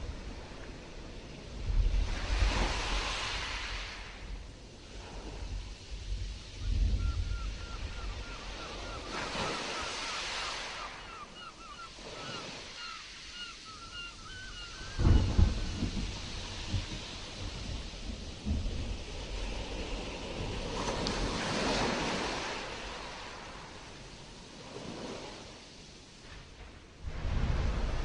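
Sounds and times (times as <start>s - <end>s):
wind buffeting the microphone: 0.0s - 10.7s, 14.2s - 25.4s, 26.2s - 28.0s
stormy sea surf washing: 0.0s - 28.0s.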